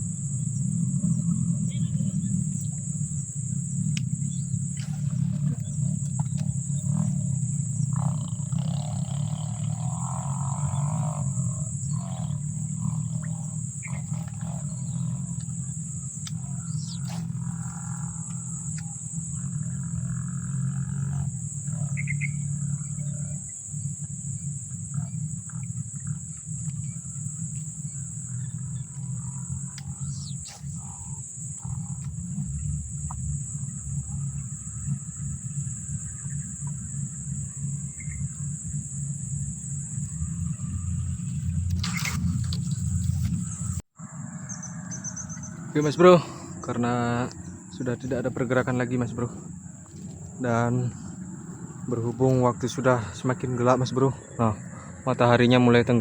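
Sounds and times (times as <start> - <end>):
frogs croaking: 0.0 - 56.0
high-pitched insect drone: 0.0 - 56.0.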